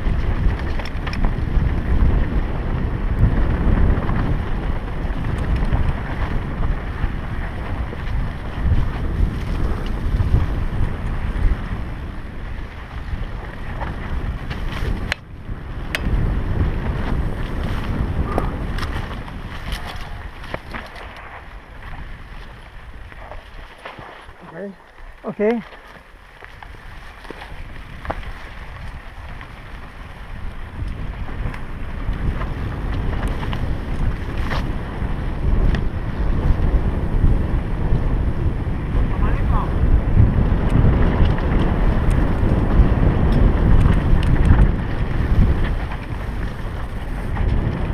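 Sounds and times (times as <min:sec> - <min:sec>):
bike clicks over bumps: 0:00.0 - 0:47.9
bike tyres rumbling on dirt: 0:00.0 - 0:47.9
wind rushing over microphone: 0:00.0 - 0:47.9.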